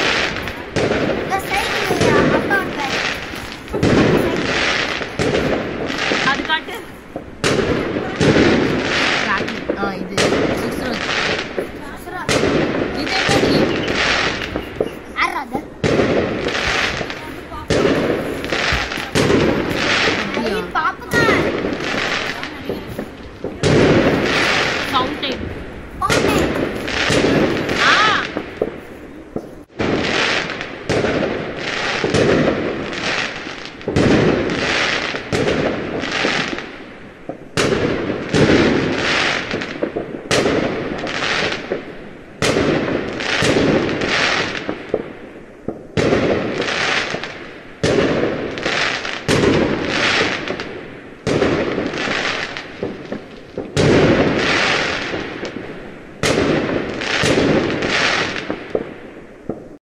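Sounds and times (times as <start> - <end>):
firecrackers bursting: 0.0 - 59.8.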